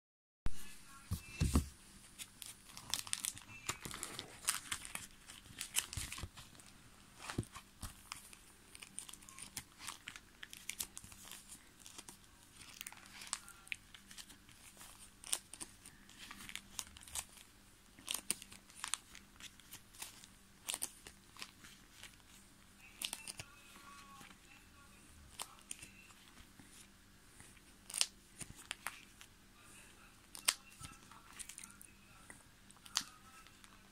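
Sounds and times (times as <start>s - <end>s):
plastic pages crinkling: 0.9s - 29.3s, 30.0s - 33.9s.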